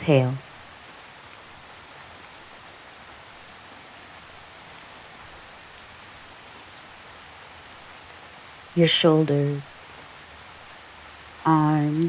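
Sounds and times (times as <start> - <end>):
gentle rain falling: 0.0 - 12.0.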